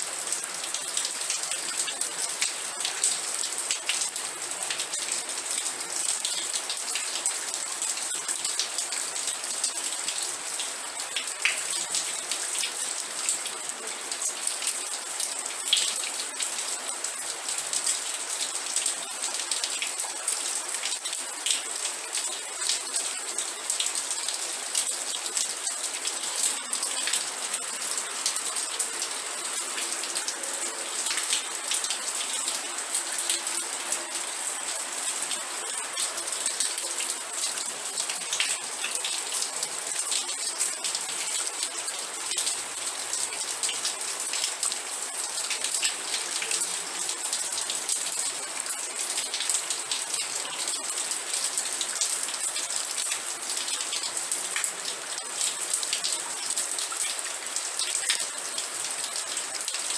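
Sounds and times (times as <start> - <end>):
rain drops splashing on hard surface: 0.0 - 59.9.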